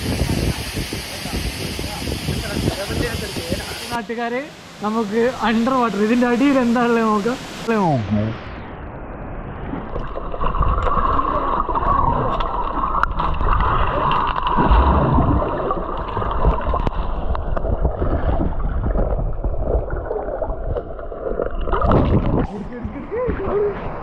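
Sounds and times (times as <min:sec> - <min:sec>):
arm churning water: 0:00.0 - 0:08.2, 0:09.4 - 0:24.0
underwater rush and gurgle: 0:00.0 - 0:24.0.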